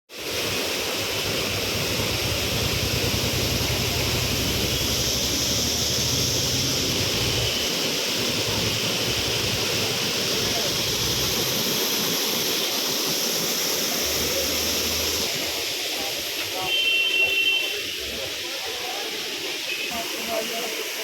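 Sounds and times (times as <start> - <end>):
waterfall rushing: 0.1 - 21.0.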